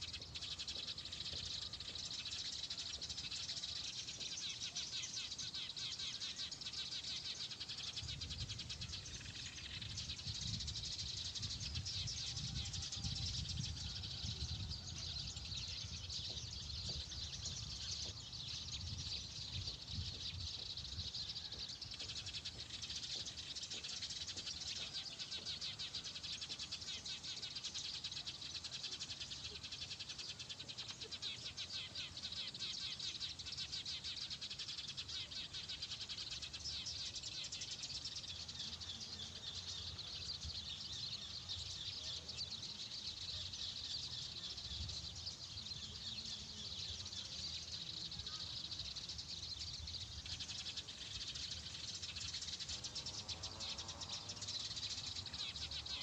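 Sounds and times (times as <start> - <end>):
flock of small birds chirping: 0.0 - 56.0.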